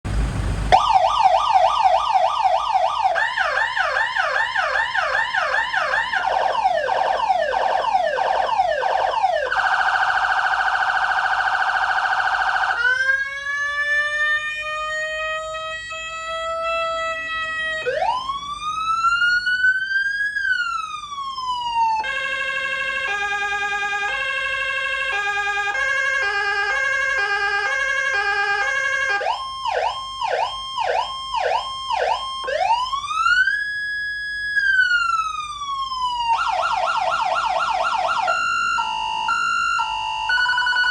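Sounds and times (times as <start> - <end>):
electronic siren: 0.7 - 40.9.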